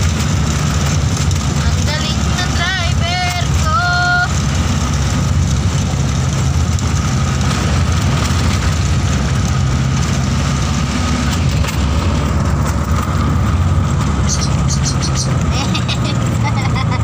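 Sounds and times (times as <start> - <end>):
low engine drone: 0.0 - 17.0
road noise inside vehicle: 0.0 - 17.0.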